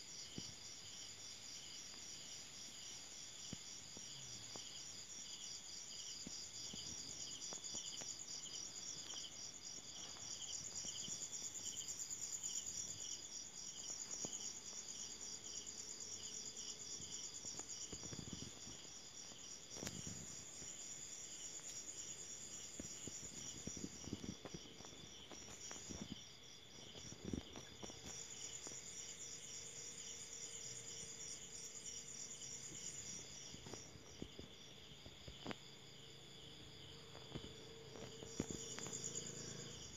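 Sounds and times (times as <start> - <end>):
cricket chirping: 0.0 - 39.9
insects pulsing trill: 0.2 - 39.9.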